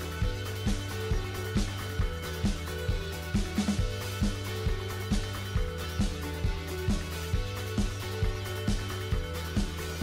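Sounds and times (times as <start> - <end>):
music with kick-drum beat: 0.0 - 10.0.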